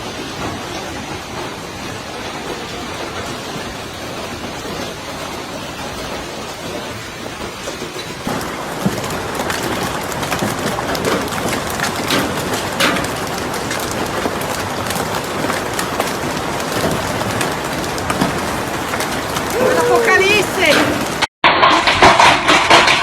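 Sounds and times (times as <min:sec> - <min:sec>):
hailstones clattering: 0:00.0 - 0:23.0.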